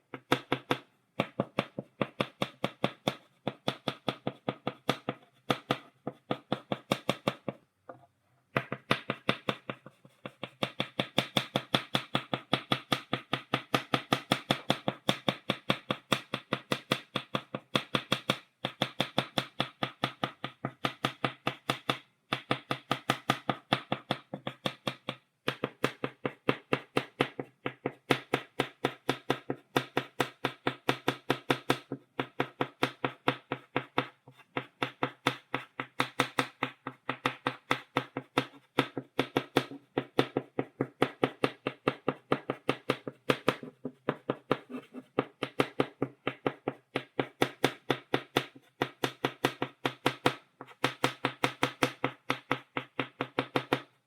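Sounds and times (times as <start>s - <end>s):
chalk tapping on blackboard: 0.0s - 53.9s.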